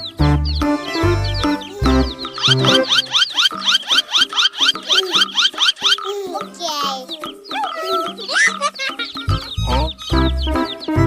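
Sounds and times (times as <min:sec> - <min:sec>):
children's background music: 0:00.0 - 0:11.0
chirpy warble: 0:00.0 - 0:11.0.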